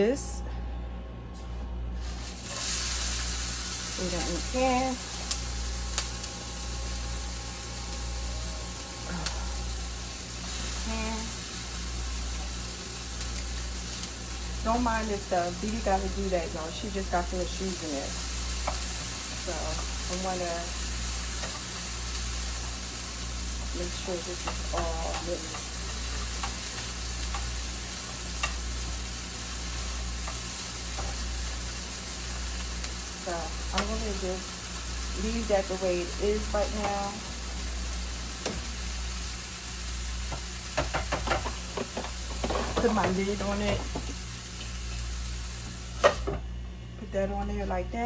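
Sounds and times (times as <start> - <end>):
food sizzling in a hot pan: 2.0 - 46.5.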